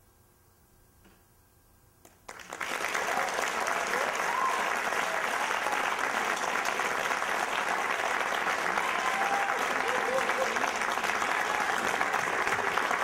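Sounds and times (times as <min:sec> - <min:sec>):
audience clapping: 0:02.1 - 0:13.0.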